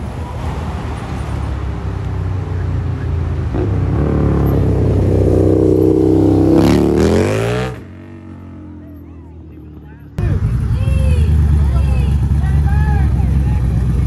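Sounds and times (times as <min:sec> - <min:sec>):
vehicle engine approaching: 0:00.0 - 0:14.0.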